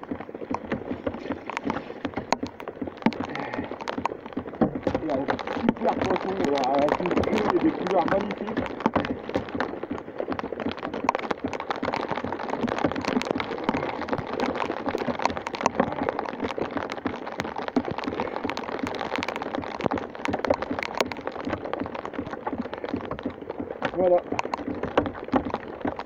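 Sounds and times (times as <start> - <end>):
raindrops ticking close by: 0.0 - 26.0
steady rain falling: 0.0 - 26.0.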